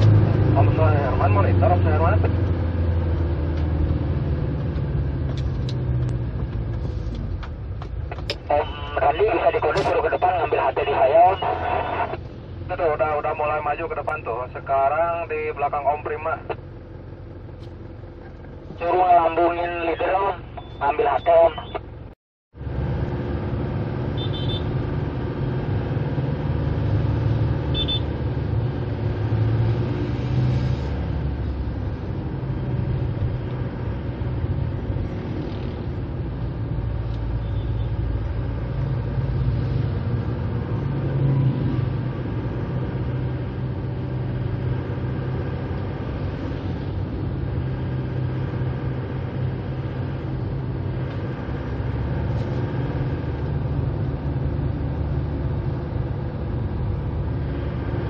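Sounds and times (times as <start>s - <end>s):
car engine drone: 0.0s - 58.0s
road noise: 0.0s - 58.0s.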